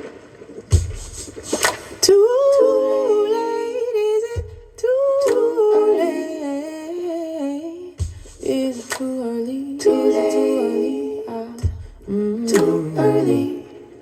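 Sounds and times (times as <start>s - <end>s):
woman humming with harmony voices: 2.3s - 14.0s.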